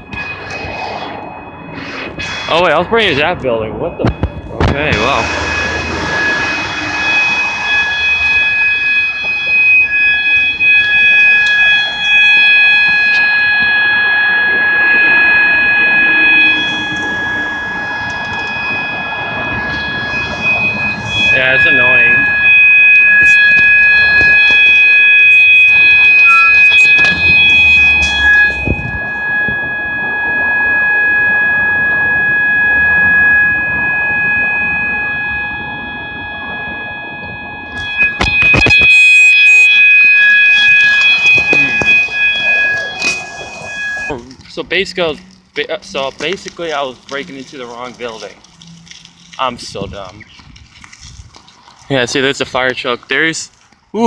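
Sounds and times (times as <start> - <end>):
fire alarm horn steady tone: 0.0 - 50.1.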